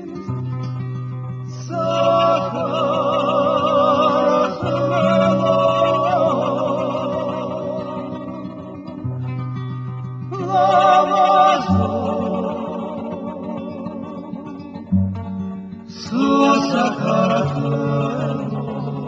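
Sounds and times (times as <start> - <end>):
guitar and bass music: 0.0 - 19.0
person singing: 1.5 - 9.2, 10.3 - 19.0.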